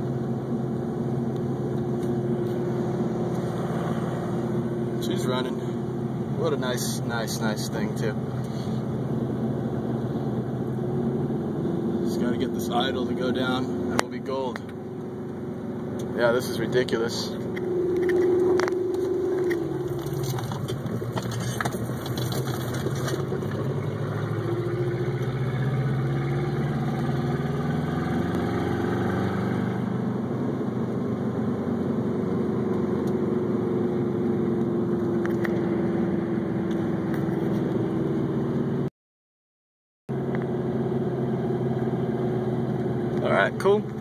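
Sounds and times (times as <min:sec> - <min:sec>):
car engine running from inside: 0:00.0 - 0:38.9, 0:40.1 - 0:44.0.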